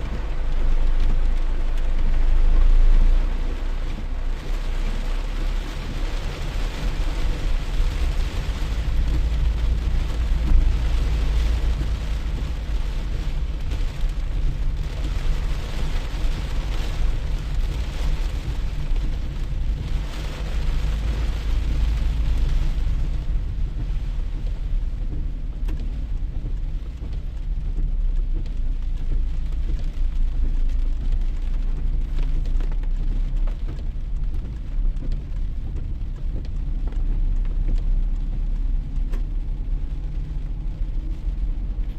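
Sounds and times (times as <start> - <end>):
constant low rumble: 0.0 - 41.9
rain falling: 0.0 - 41.9.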